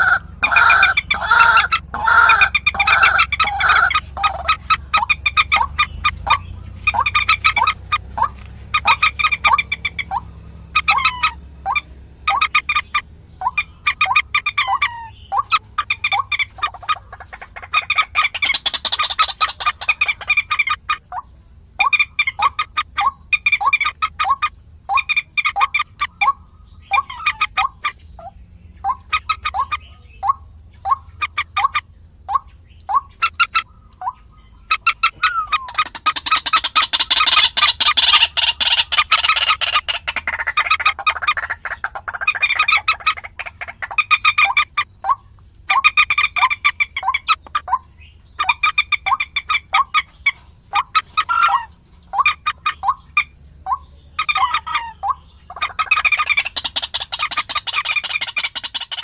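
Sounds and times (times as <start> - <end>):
moorhen clucking calls: 0.0 - 59.0.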